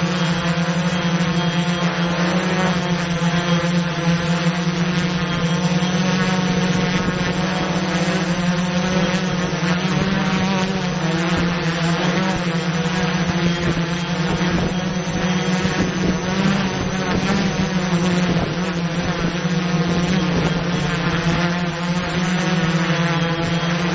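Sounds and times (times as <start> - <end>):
drone propellers humming: 0.0 - 23.9.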